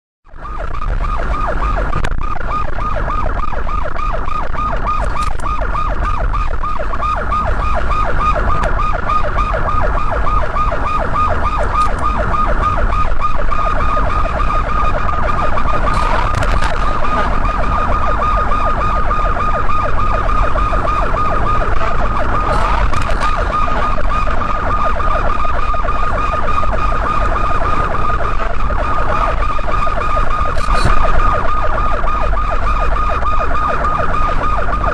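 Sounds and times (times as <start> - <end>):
car road and engine rumble: 0.2 - 34.9
siren wailing: 0.3 - 34.9.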